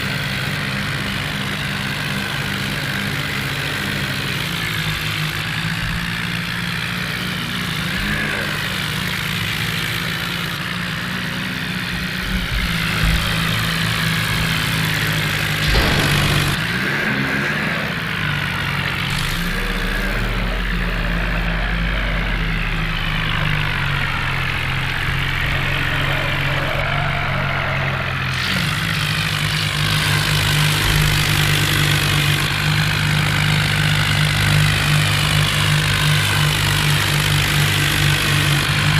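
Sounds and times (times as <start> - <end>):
tractor diesel engines running: 0.0 - 38.9.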